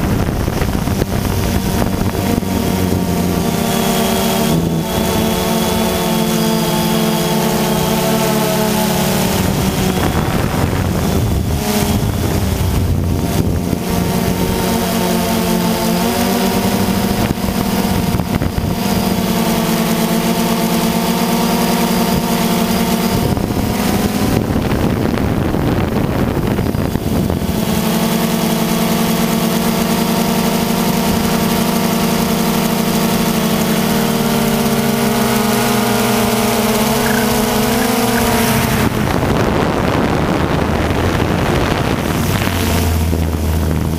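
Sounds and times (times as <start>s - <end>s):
drone propellers buzzing: 0.0s - 43.9s
wind noise on microphone: 0.0s - 43.9s.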